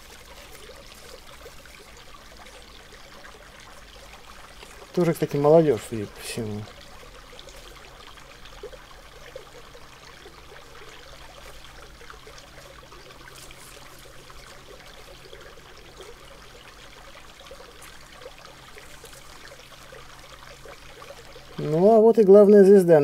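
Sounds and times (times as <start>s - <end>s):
faint ticks and rustles: 0.0s - 21.6s
river water flowing: 0.0s - 23.0s.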